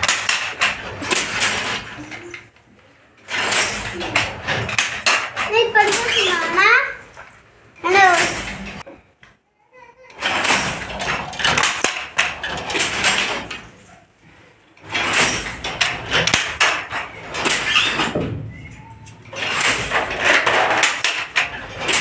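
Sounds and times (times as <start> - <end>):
handloom clattering and knocking: 0.0 - 9.0, 10.1 - 22.0.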